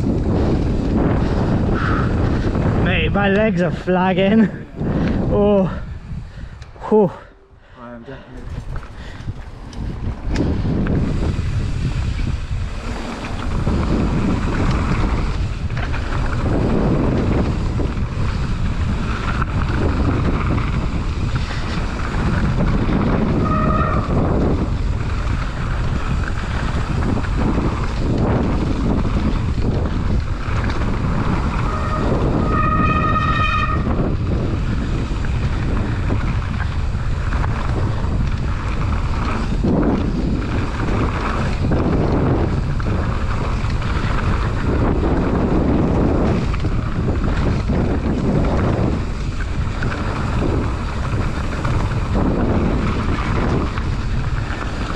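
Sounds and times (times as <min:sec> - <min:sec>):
bike rattling over rough trail: 0:00.0 - 0:07.1, 0:07.7 - 0:54.9
wind rushing over microphone: 0:00.0 - 0:54.9.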